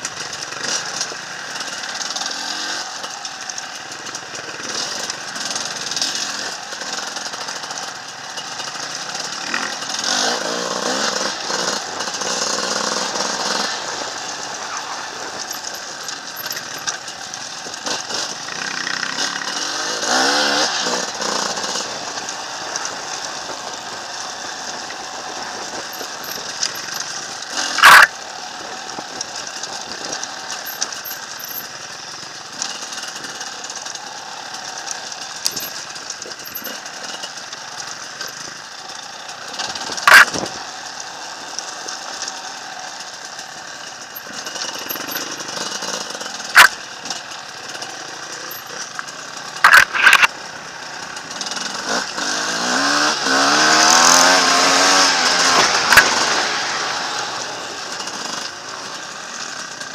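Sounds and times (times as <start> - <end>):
dirt bike engine: 0.0 - 59.9
wind and trail noise: 0.0 - 59.9.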